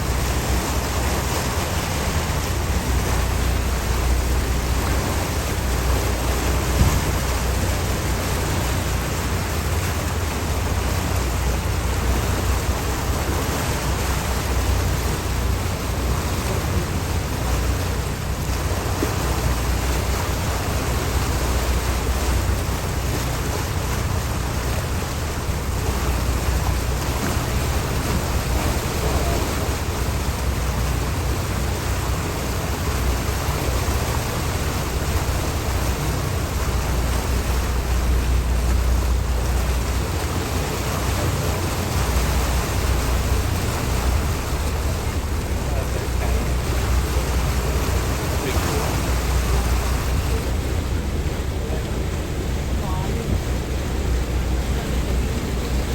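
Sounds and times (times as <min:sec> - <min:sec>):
low rumble: 0:00.0 - 0:55.9
water rushing: 0:00.0 - 0:55.9.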